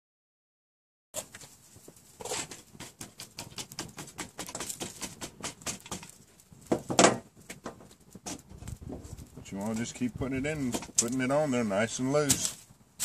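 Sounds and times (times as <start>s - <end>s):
twig fire crackling: 1.2s - 13.0s.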